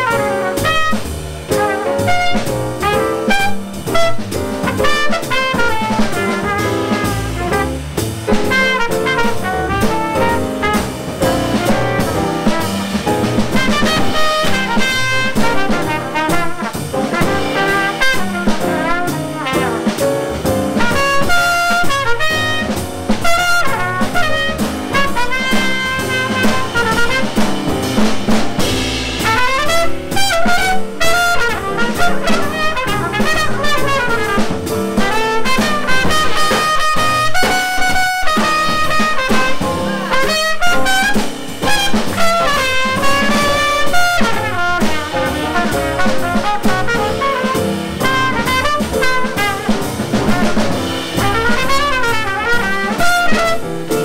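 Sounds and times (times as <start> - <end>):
jazz piano bass and drums: 0.0 - 54.0
trumpet solo: 0.0 - 54.0.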